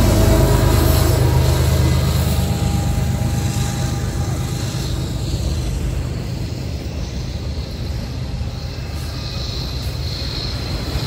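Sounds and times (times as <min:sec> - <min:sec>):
diesel locomotive: 0:00.0 - 0:11.0
freight train rumbling on rails: 0:00.0 - 0:11.0.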